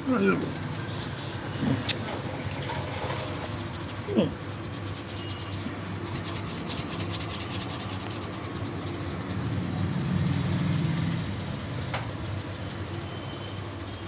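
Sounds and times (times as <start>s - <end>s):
hands rubbing over hair: 0.0s - 14.0s.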